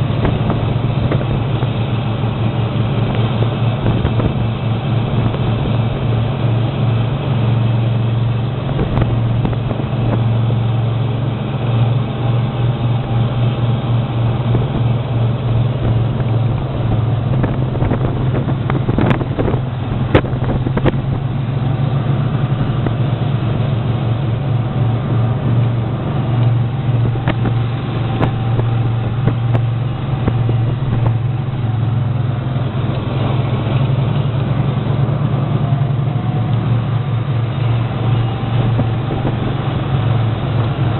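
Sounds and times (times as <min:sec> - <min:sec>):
loud low machine hum: 0:00.0 - 0:40.9.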